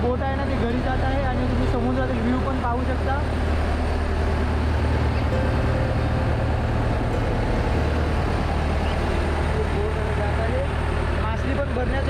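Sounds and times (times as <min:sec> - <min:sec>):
boat engine droning: 0:00.0 - 0:12.0
wake water rushing: 0:00.9 - 0:12.0.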